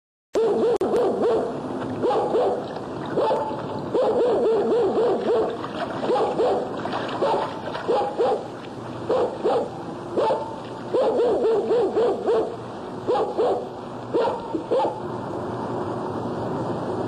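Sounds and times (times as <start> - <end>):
dogs barking: 0.4 - 15.1
steady background noise: 0.4 - 17.0.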